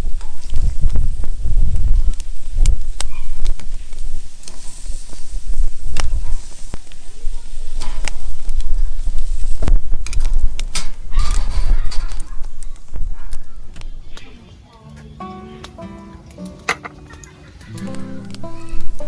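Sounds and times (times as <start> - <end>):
wood fire crackling: 0.0 - 19.0
sharp pops: 0.1 - 14.4, 16.4 - 19.0.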